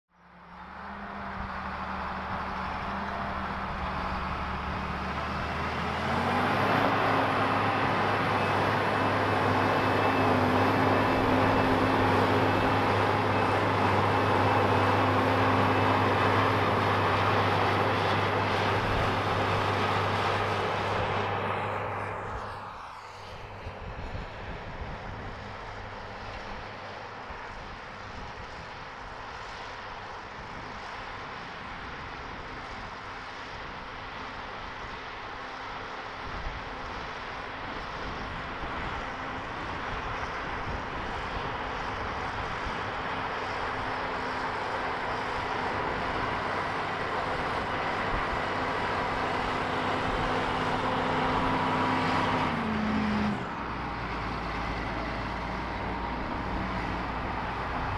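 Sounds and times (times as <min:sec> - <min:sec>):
tractor diesel engine under load: 0:00.2 - 0:57.9.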